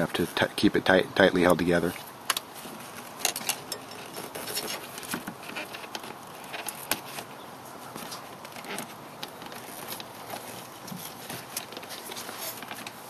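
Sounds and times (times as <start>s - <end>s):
cable ties clicking and rustling: 1.4s - 13.0s.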